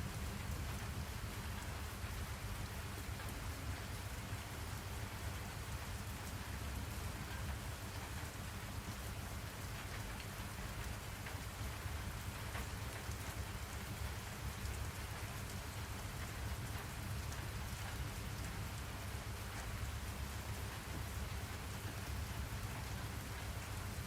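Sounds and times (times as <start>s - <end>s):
rain drops ticking: 0.0s - 24.0s
steady rain hiss: 0.0s - 24.0s.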